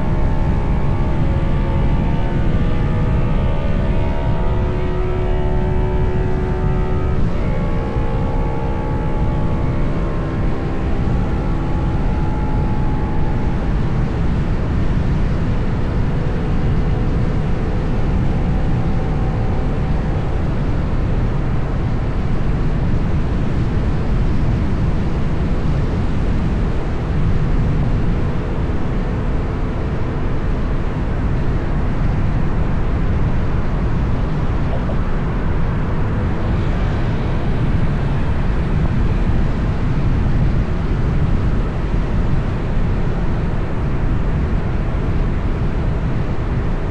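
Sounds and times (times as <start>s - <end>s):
faint engine tones: 0.0s - 46.9s
vehicle road and wind noise: 0.0s - 46.9s.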